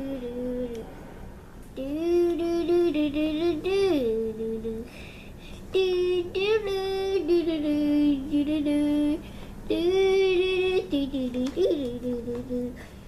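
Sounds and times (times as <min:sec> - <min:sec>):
girl singing wordless notes: 0:00.0 - 0:01.0, 0:01.6 - 0:13.0.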